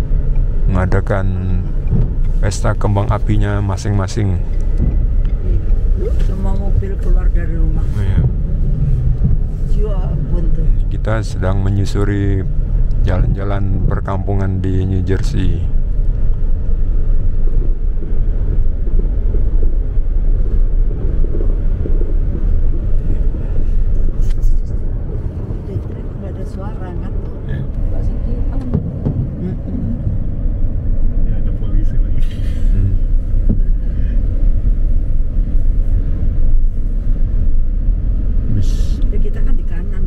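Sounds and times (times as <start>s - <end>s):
car engine rumble: 0.0s - 40.0s
road noise: 0.0s - 40.0s.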